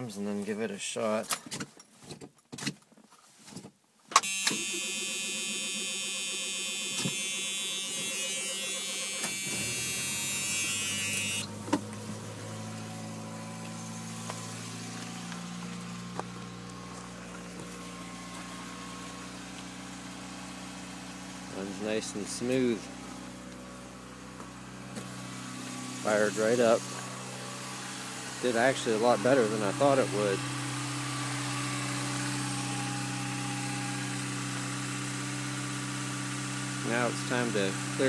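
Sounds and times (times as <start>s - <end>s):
car engine cranking: 4.2s - 35.0s
car engine idling with whine: 4.3s - 38.0s.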